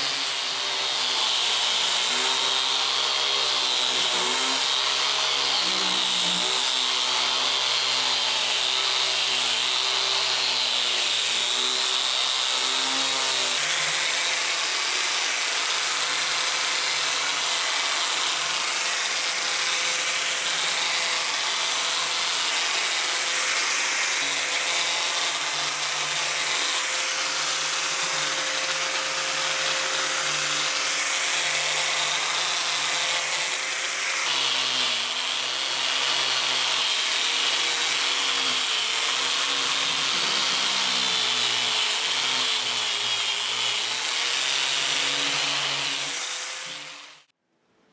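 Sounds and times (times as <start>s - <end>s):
power tool running on wood: 0.0s - 47.3s.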